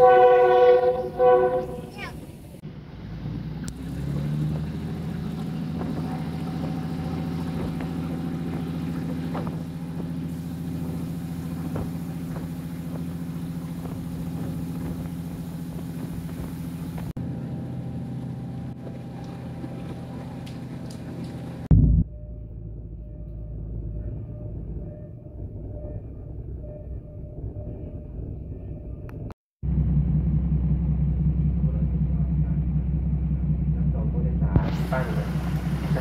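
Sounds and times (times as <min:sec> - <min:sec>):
train engine drone: 0:00.0 - 0:36.0.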